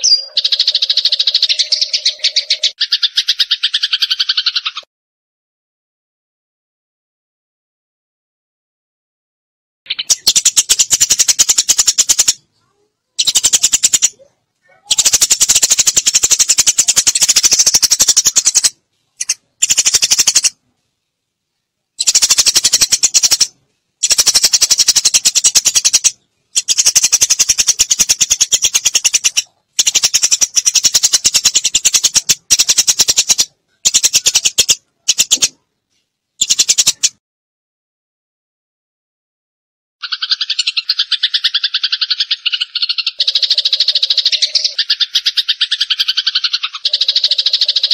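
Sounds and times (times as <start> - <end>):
sparrows chirping: 0.0 - 4.9, 9.9 - 20.6, 21.6 - 35.6, 36.4 - 37.2, 40.0 - 47.9.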